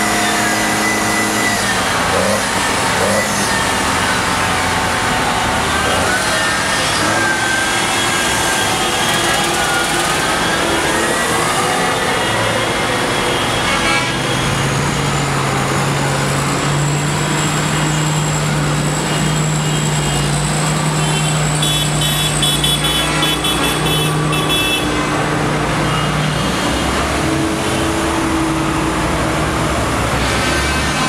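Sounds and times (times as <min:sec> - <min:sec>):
street traffic hum: 0:00.0 - 0:31.0.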